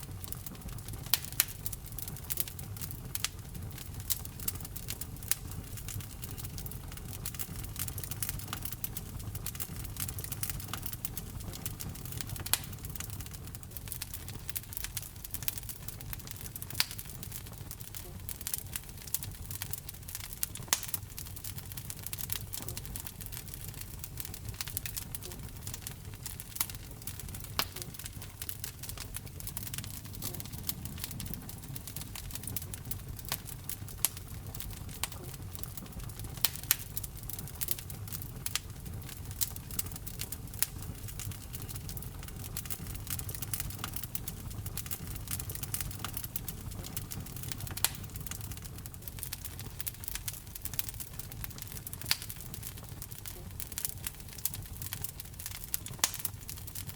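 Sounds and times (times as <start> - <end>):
fire crackling and popping: 0.0 - 56.9
rumble of fire flames: 0.0 - 56.9.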